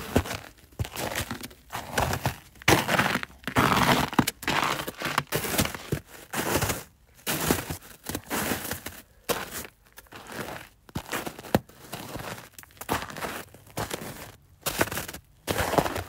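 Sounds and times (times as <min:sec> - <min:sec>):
footsteps crunching through snow: 0:00.0 - 0:16.0.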